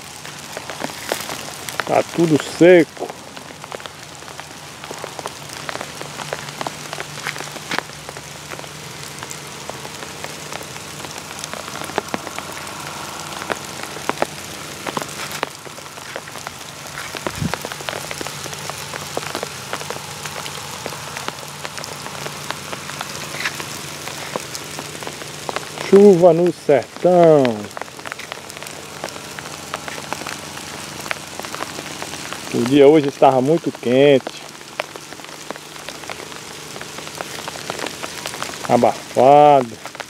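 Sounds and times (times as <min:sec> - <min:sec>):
light rain on dry leaves: 0:00.0 - 0:40.0.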